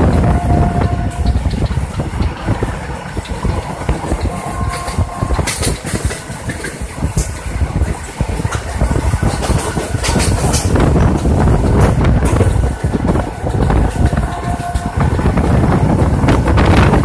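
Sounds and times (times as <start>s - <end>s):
train carriage rumble: 0.0s - 17.0s
wheels clattering on track: 0.0s - 17.0s.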